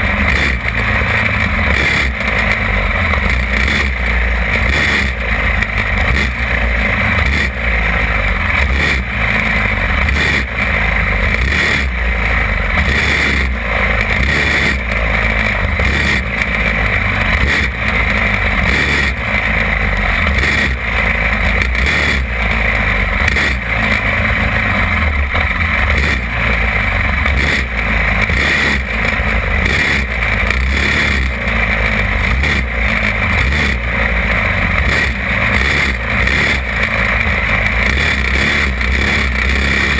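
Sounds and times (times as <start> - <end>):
go-kart engine running hard: 0.0 - 39.9
other kart engines: 0.0 - 39.9.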